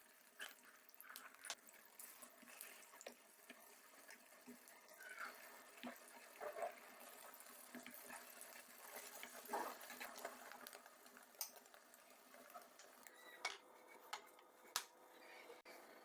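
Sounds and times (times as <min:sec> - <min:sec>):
egg sizzling in a pan: 0:00.0 - 0:16.0.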